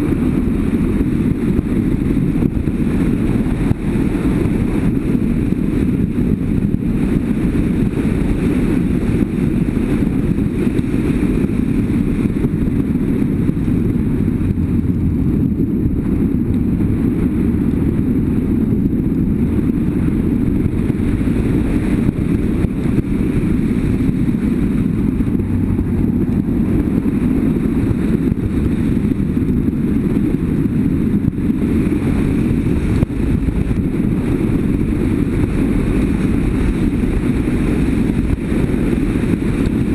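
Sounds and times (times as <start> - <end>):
motorcycle engine rumble: 0.0 - 39.9
wind rushing over microphone: 0.0 - 39.9.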